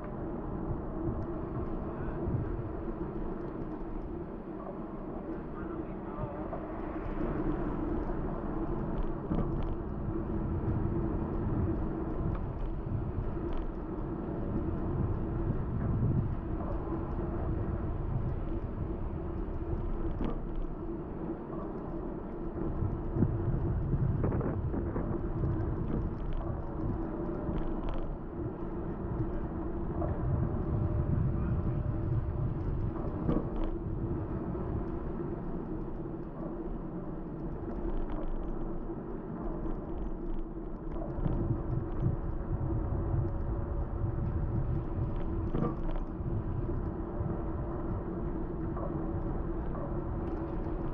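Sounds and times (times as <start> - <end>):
steady low hum: 0.0 - 50.9
wind rumble on microphone: 0.0 - 50.9
bicycle tyre and road noise: 5.0 - 50.9.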